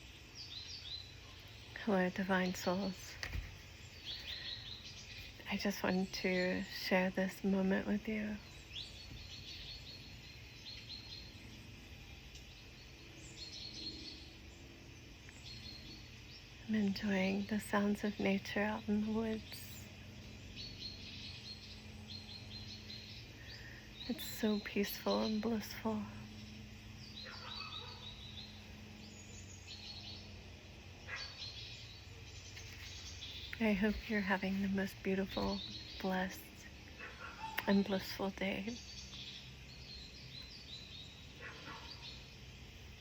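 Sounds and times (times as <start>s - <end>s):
faint background rumble: 0.0s - 43.0s
faint low hum: 0.0s - 43.0s
songbirds chirping: 0.0s - 43.0s.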